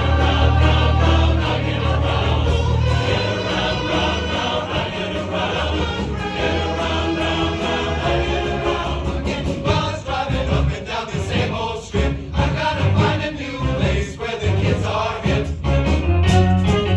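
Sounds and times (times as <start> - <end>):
low bass notes: 0.0 - 10.8, 11.4 - 16.9
men's chorus singing in harmony: 0.0 - 15.8.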